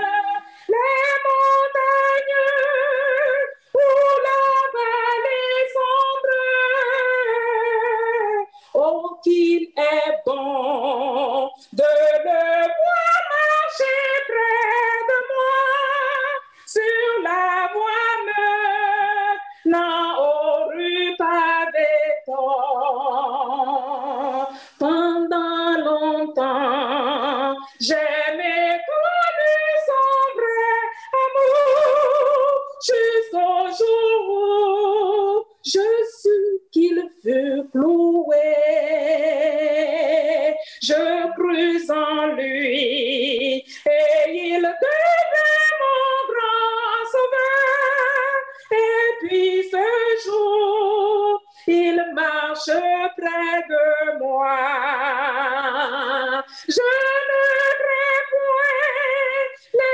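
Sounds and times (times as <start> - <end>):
woman singing a hymn: 0.0 - 59.9.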